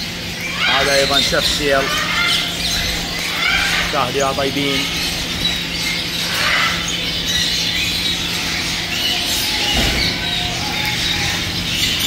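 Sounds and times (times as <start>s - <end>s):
birds chirping and squawking: 0.0s - 12.0s
steady low hum: 0.0s - 12.0s.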